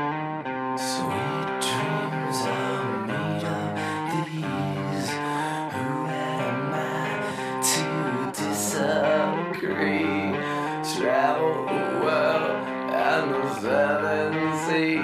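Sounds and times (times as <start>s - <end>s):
slow dark rock song: 0.0s - 15.0s.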